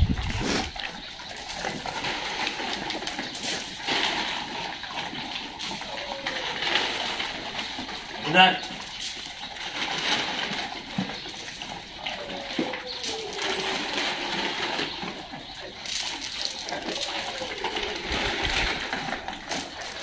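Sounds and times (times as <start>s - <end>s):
dogs snuffling and eating: 0.0s - 20.0s
kibble rattling on tile floor: 0.0s - 20.0s.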